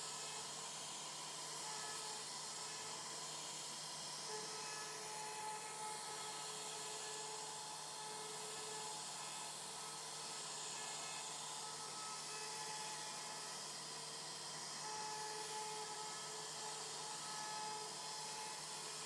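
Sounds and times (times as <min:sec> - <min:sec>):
router spindle whining: 0:00.0 - 0:19.0.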